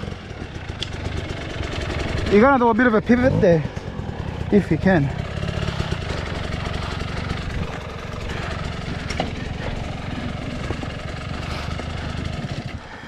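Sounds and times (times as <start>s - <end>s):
two-stroke dirt bike engine: 0.0s - 13.0s.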